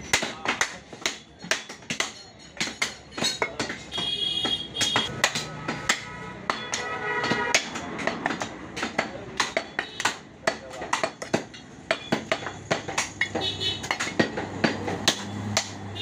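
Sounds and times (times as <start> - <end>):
knife chopping on wooden block: 0.1 - 15.9.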